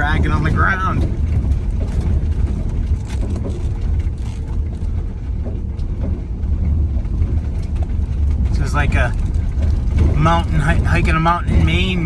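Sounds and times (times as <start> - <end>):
knocks and rattles: 0.0 - 12.0
van engine and tyres rumbling: 0.0 - 12.0.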